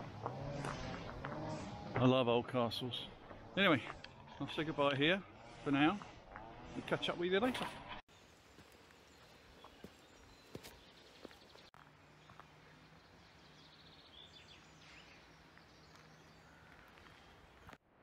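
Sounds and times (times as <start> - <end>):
distant birds trilling: 0.0 - 17.8.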